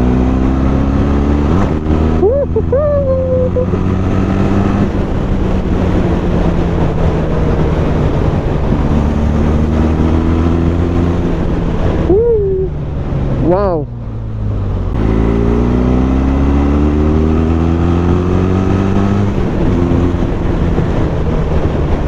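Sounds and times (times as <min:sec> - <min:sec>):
rising and falling tone: 0:00.0 - 0:20.2
motorcycle engine running: 0:00.0 - 0:22.0.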